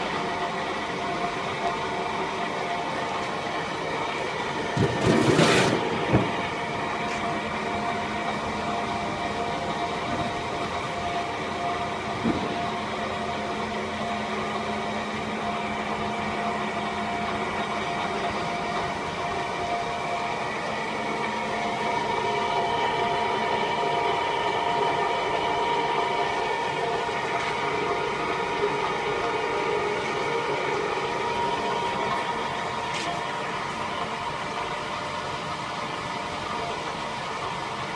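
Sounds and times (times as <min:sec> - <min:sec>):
gearbox humming and whining: 0:00.0 - 0:37.9.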